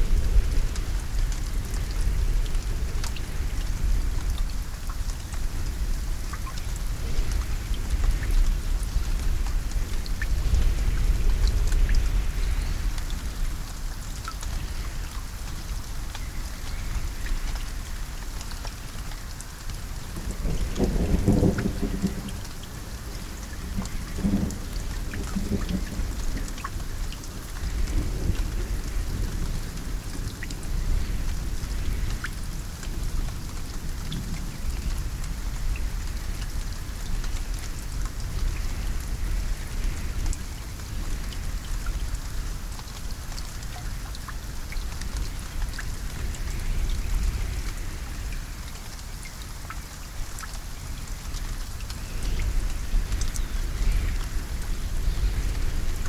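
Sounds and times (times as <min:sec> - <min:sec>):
low rumble of thunder: 0:00.0 - 0:56.0
raindrops ticking on a surface: 0:00.0 - 0:56.0
steady rain falling: 0:00.0 - 0:56.0.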